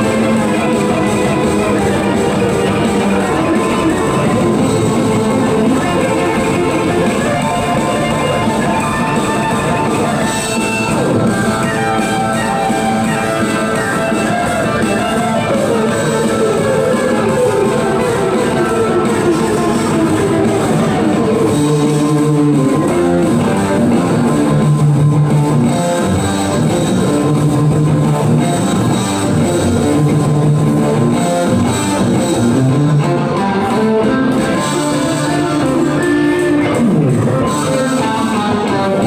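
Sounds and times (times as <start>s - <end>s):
distorted electric guitar riff: 0.0s - 39.0s.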